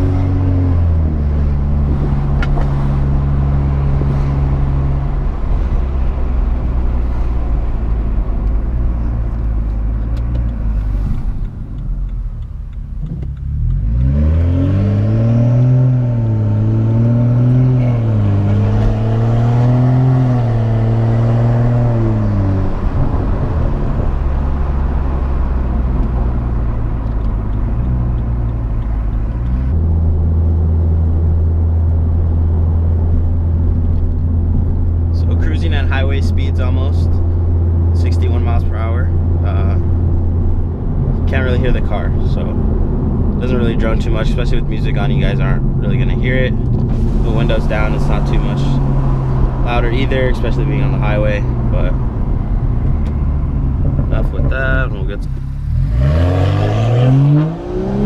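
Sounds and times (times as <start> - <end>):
car engine exhaust drone: 0.0 - 58.0.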